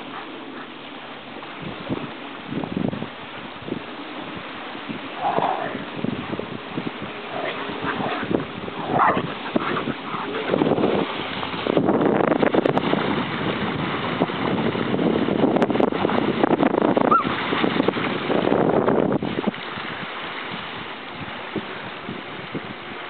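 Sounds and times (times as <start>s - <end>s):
dogs splashing through surf: 0.0s - 23.0s
rush of splashing water: 0.0s - 23.0s.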